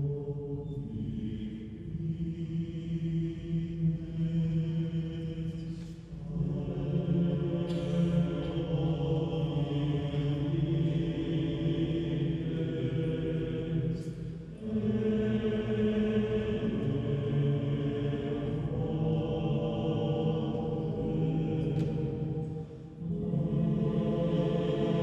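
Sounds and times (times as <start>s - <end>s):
mixed choir singing: 0.0s - 25.0s.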